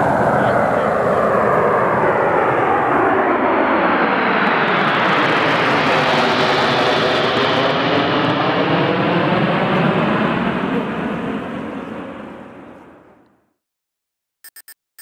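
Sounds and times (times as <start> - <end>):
jet roar: 0.0 - 13.2.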